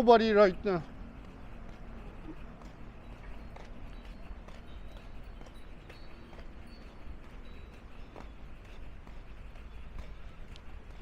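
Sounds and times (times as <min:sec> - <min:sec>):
footsteps walking: 0:00.7 - 0:11.0.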